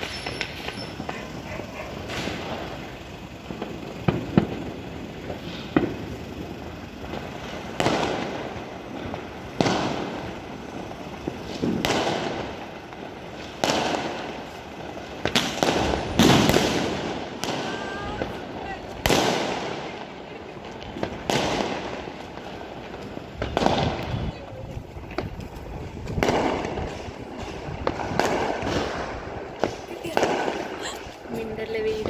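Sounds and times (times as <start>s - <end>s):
fireworks bangs with echoing rumble: 0.0s - 32.0s
sharp firework cracks: 0.0s - 32.0s.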